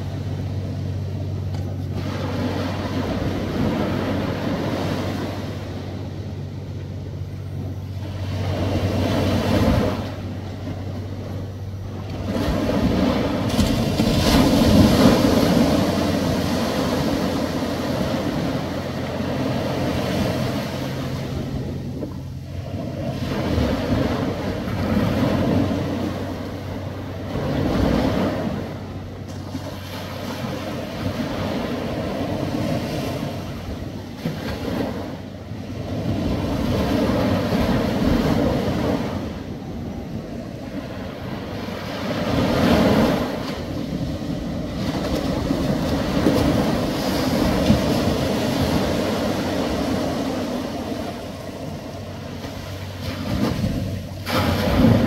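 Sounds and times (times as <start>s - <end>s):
low steady hum: 0.0s - 55.0s
ocean waves washing ashore: 0.0s - 55.0s.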